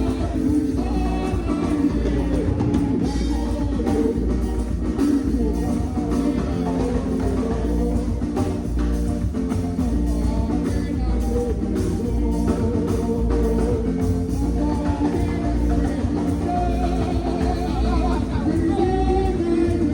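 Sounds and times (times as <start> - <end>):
person singing: 0.0 - 19.9
rock band playing: 0.0 - 19.9.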